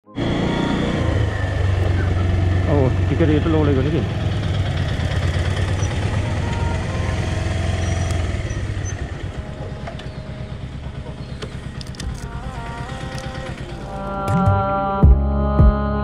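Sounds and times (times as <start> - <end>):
motorcycle engine running: 0.1 - 14.7.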